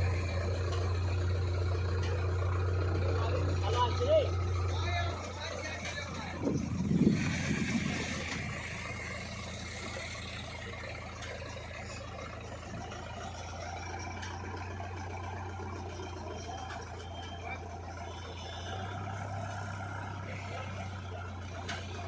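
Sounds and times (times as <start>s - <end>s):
diesel machinery engine running: 0.0s - 22.0s.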